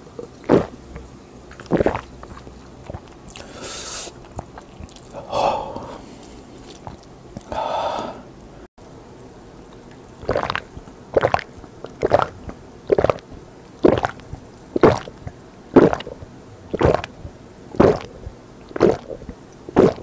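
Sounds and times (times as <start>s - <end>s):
person swallowing: 0.0s - 8.2s, 10.2s - 20.0s.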